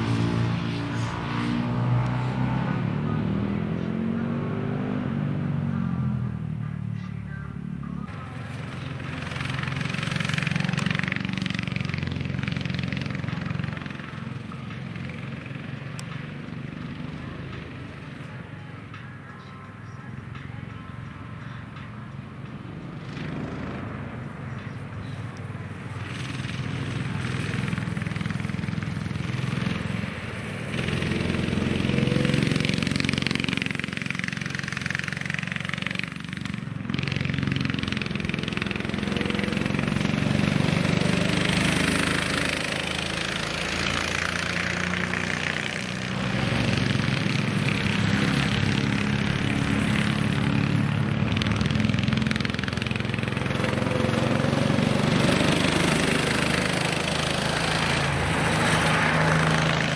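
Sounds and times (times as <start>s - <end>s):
go-kart engines passing: 0.0s - 59.9s.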